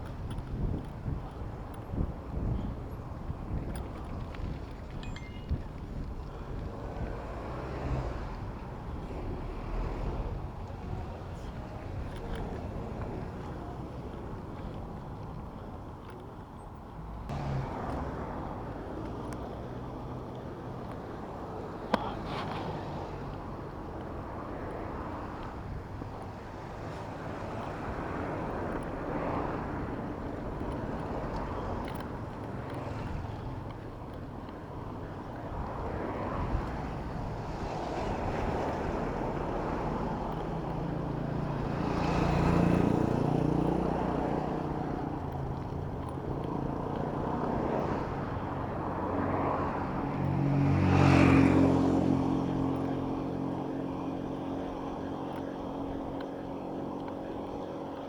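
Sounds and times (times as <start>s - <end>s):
motor vehicles passing close: 0.0s - 58.0s
road traffic noise: 0.0s - 58.0s.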